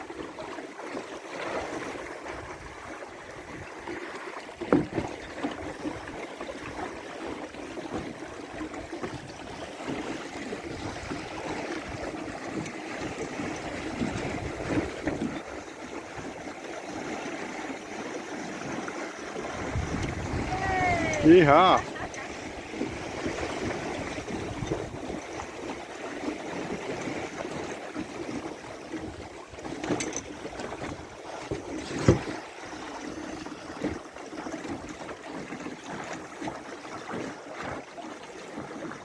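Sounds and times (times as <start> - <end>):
water splashing against boat hull: 0.0 - 39.0.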